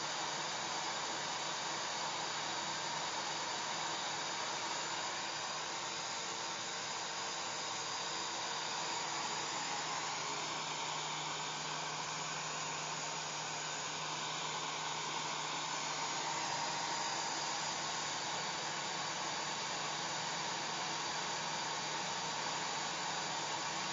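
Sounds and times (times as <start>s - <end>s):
hair dryer blowing: 1.2s - 23.9s.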